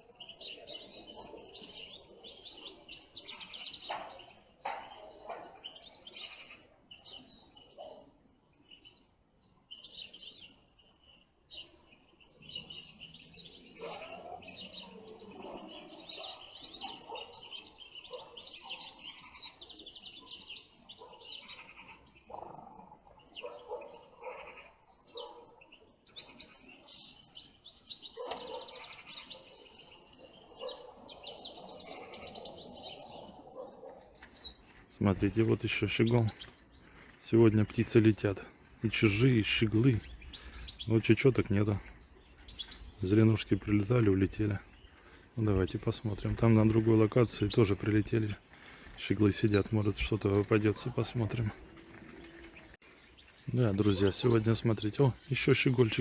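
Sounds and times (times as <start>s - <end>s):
goldfinches chirping and twittering: 0.0s - 56.0s.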